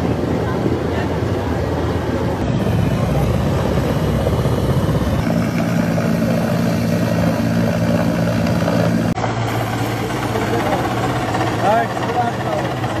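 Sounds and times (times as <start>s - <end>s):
dense background rush: 0.0s - 13.0s
helicopter rotor and engine drone: 0.0s - 13.0s.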